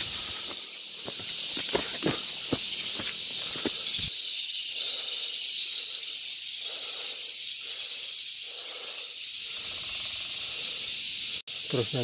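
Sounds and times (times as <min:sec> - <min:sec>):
high-pitched outdoor hiss: 0:00.0 - 0:12.0.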